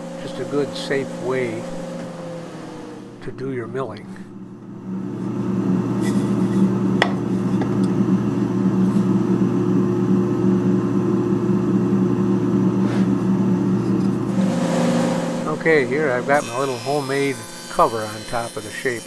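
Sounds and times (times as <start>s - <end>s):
woodworking machine humming: 0.0s - 19.0s.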